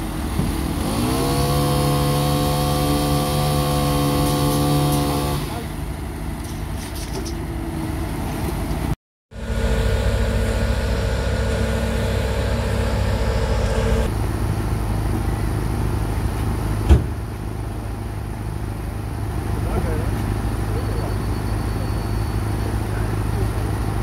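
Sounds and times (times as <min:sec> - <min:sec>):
diesel truck engines running: 0:00.0 - 0:24.0.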